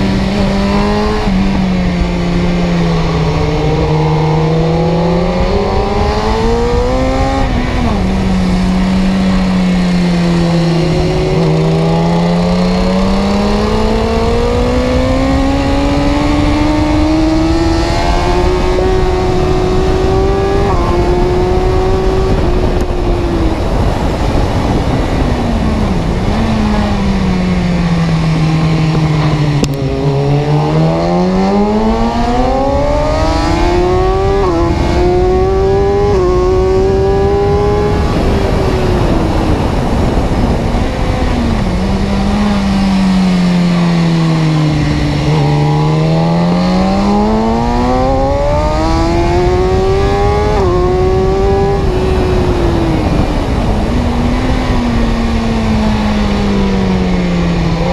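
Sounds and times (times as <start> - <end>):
car engine whining: 0.0 - 57.9
road noise: 0.0 - 57.9.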